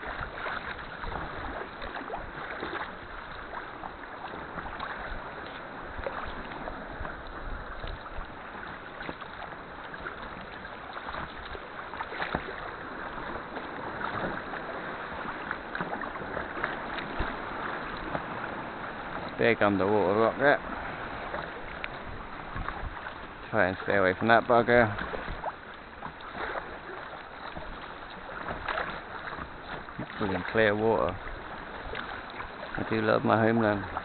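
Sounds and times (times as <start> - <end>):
paddle splashes: 0.0 - 34.0
sea water washing: 0.0 - 34.0
water against kayak hull: 0.0 - 34.0.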